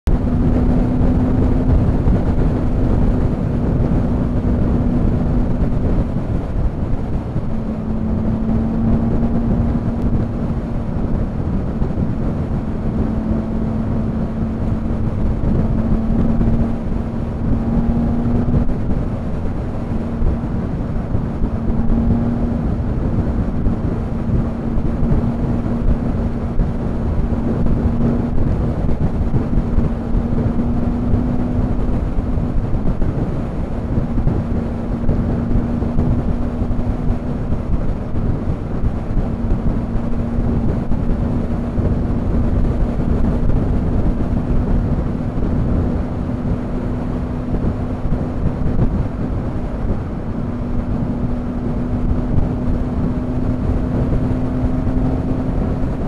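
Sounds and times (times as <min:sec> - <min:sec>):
motorcycle engine drone: 0:00.0 - 0:56.0
wind rush over microphone: 0:00.0 - 0:56.0.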